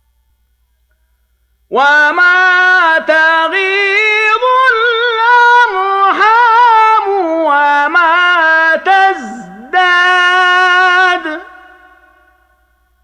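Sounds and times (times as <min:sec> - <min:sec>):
man reciting melodically: 0:01.7 - 0:12.5.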